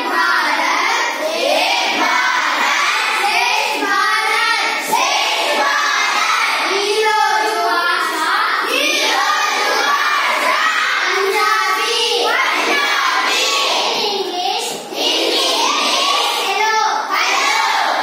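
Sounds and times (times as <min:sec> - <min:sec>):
children singing in chorus: 0:00.0 - 0:18.0.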